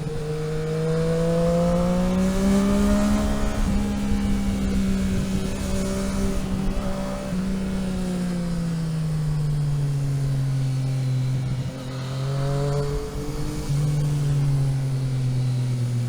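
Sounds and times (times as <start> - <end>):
vehicle engine while driving: 0.0 - 16.0.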